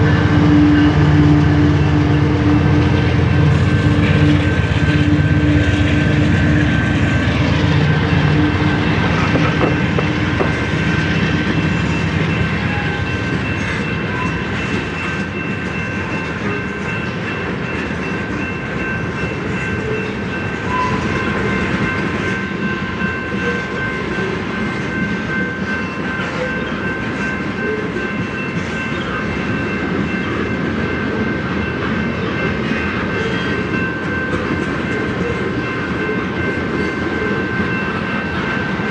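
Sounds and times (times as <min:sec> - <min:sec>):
diesel locomotive engines: 0:00.0 - 0:38.9
train cars rumbling past: 0:00.0 - 0:38.9.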